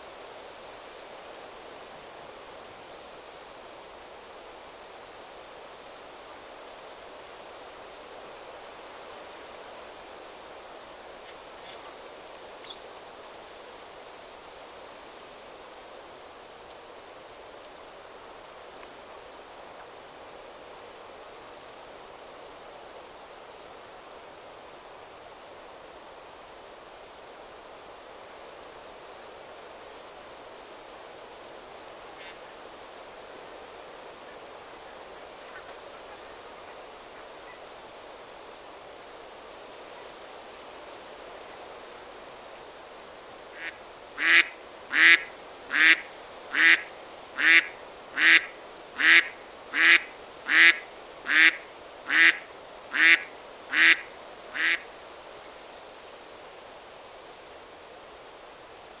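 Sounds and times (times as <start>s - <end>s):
wind rustling through trees: 0.0s - 59.0s.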